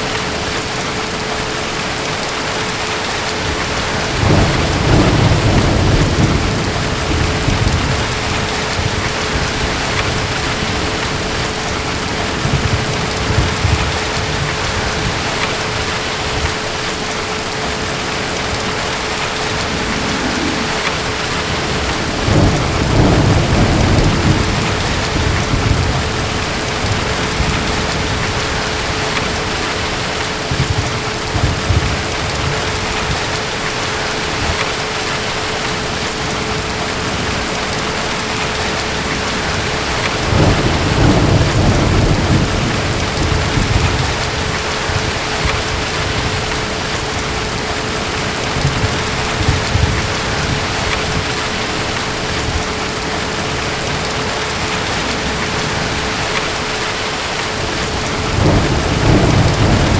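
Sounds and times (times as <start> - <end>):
heavy rain: 0.0 - 59.9
distant thunder rumbling: 3.4 - 59.9.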